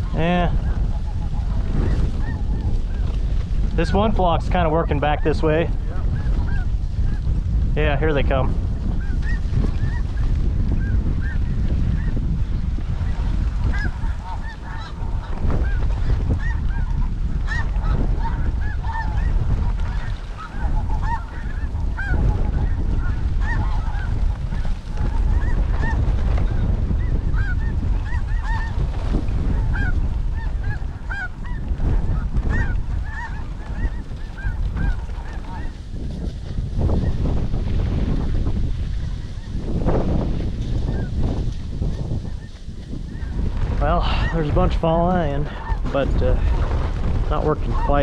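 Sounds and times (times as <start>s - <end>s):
geese honking: 0.0s - 3.0s, 3.8s - 7.2s, 8.8s - 37.3s, 40.8s - 46.7s, 47.4s - 48.0s
wind rumble on microphone: 0.0s - 48.0s.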